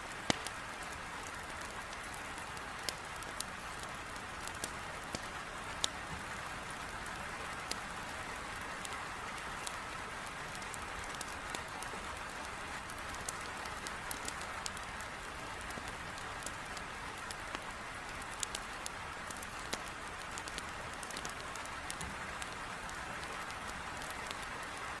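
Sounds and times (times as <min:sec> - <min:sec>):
heavy rain on a window: 0:00.0 - 0:25.0
wood fire crackling: 0:00.0 - 0:25.0.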